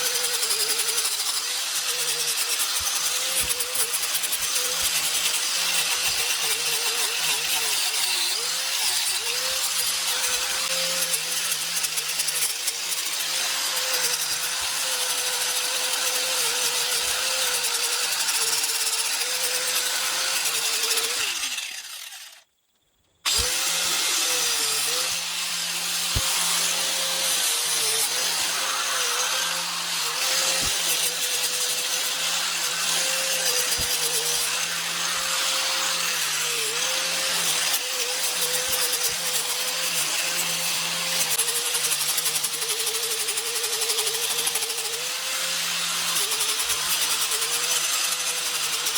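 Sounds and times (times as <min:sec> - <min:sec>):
grinder sanding wood: 0:00.0 - 0:22.2, 0:23.3 - 0:48.9.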